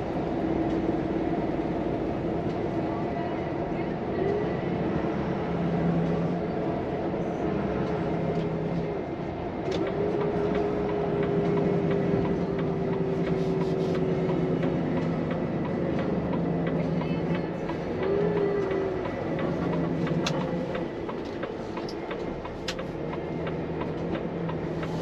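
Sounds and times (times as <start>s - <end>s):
truck diesel engine drone: 0.0s - 25.0s.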